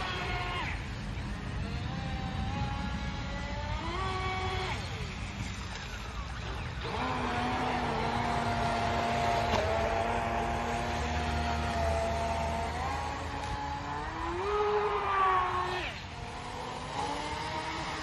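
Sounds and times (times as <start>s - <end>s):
rc boat motor whining: 0.0s - 18.0s.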